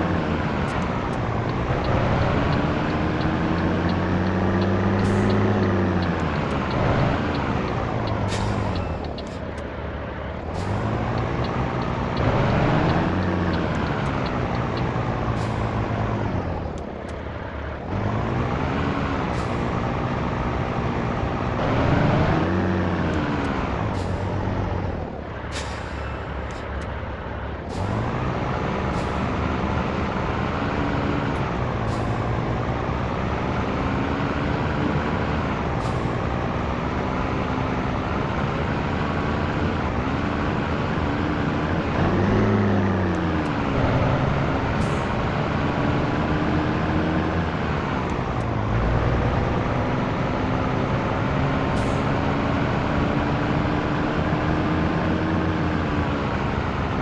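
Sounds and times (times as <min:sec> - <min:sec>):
truck diesel engine: 0:00.0 - 0:57.0.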